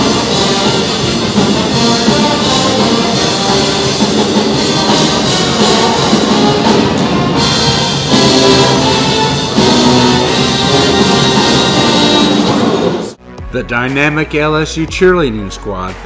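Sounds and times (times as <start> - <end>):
brass band playing: 0.0 - 14.1
drum kit: 0.0 - 16.0.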